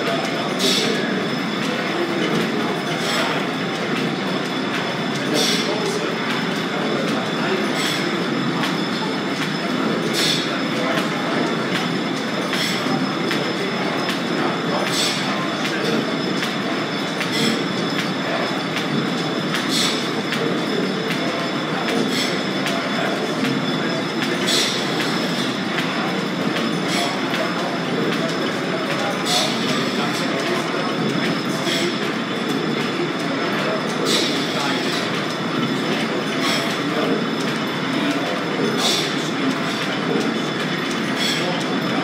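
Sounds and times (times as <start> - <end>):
belt-driven machinery clatter: 0.0 - 42.0.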